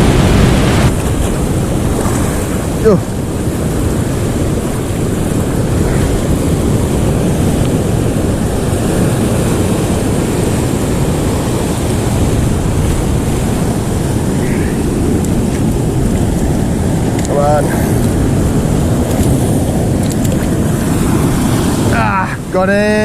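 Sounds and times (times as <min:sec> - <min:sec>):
sea surf: 0:00.0 - 0:23.0
wind on microphone: 0:00.0 - 0:23.0.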